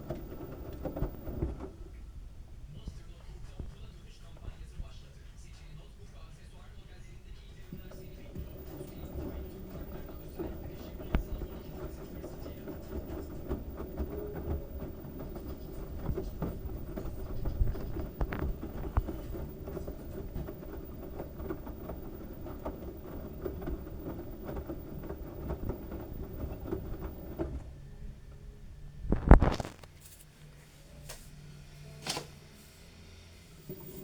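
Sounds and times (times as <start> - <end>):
washing machine drum rumbling: 0.0 - 29.6.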